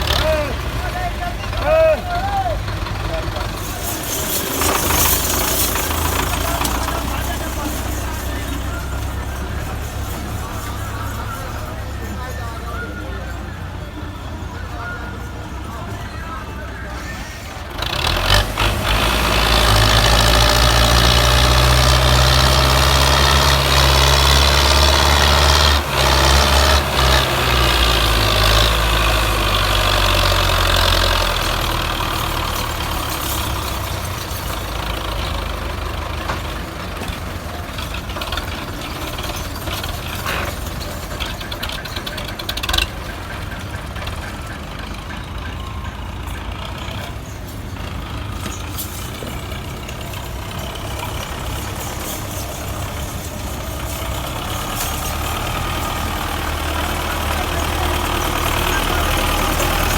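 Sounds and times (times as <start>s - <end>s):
tractor diesel engine running hard: 0.0s - 59.9s.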